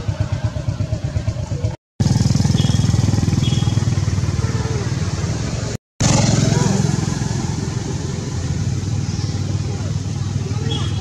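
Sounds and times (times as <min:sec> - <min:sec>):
small engine running: 0:00.1 - 0:11.0.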